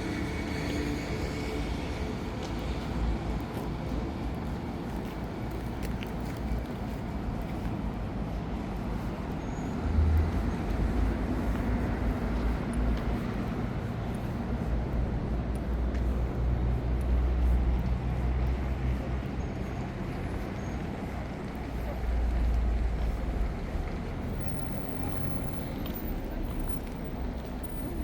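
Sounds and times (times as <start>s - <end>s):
heavy vehicles passing: 0.0s - 28.0s
traffic rumble: 0.0s - 28.0s.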